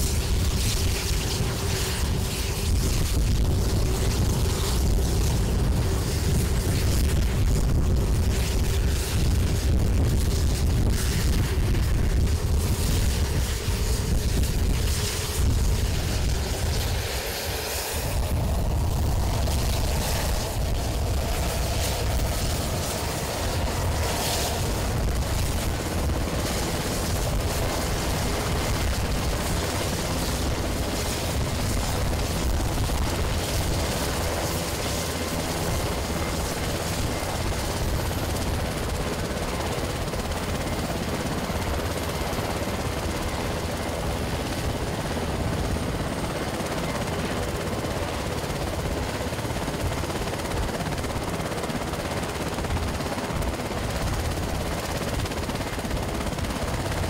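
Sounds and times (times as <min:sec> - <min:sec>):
helicopter engines and rotors running: 0:00.0 - 0:57.0.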